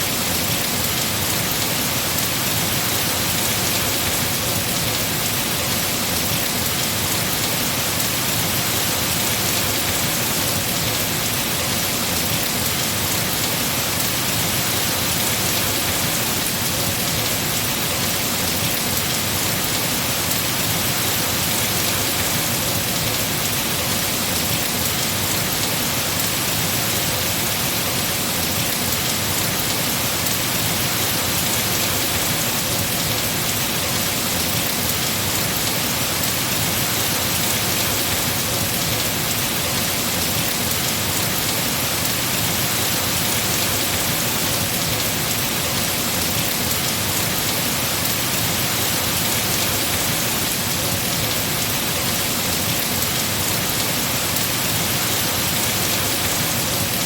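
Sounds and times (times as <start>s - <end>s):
heavy rain on trees: 0.0s - 57.0s.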